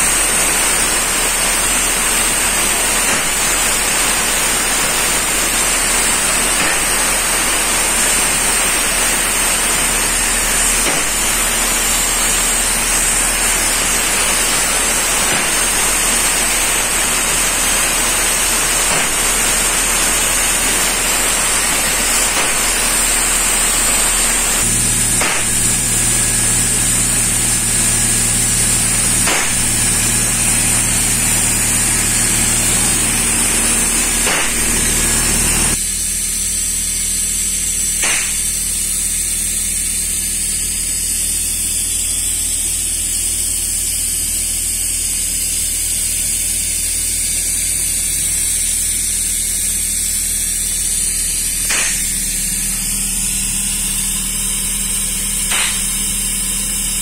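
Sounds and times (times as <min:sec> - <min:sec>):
mechanical hum: 0:00.0 - 0:57.0
paint sprayer hissing: 0:00.0 - 0:57.0.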